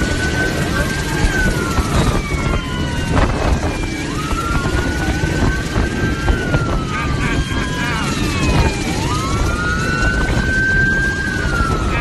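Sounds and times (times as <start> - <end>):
police sirens wailing: 0.0 - 12.0
wind buffeting microphone: 0.0 - 12.0.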